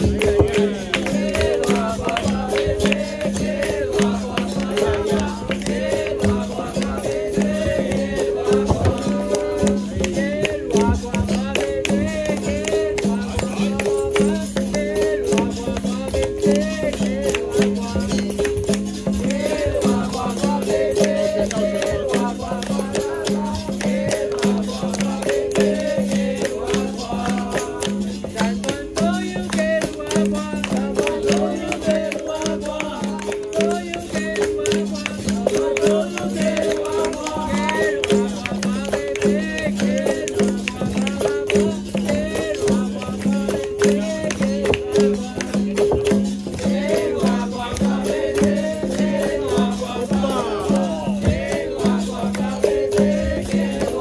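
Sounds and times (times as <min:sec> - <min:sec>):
berimbau playing rhythm: 0:00.0 - 0:54.0
group chanting song: 0:00.0 - 0:54.0
hand drums: 0:00.0 - 0:54.0
pandeiro tambourine: 0:00.0 - 0:54.0
shaken rattle: 0:00.0 - 0:54.0.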